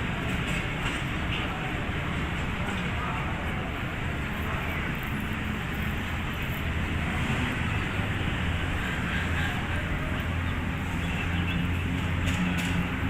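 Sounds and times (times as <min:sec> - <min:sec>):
diesel locomotive droning: 0:00.0 - 0:13.0.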